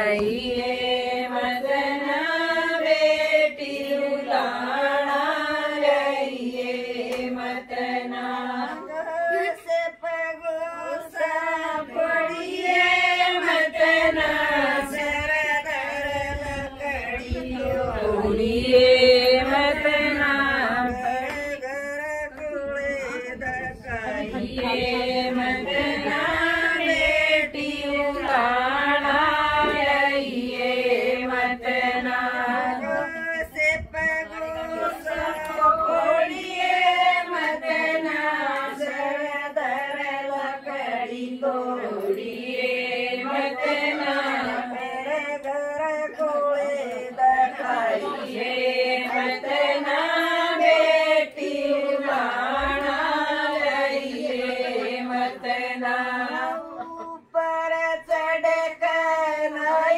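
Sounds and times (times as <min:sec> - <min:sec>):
women singing folk song: 0:00.0 - 0:09.6, 0:10.9 - 0:21.5, 0:23.6 - 0:59.9.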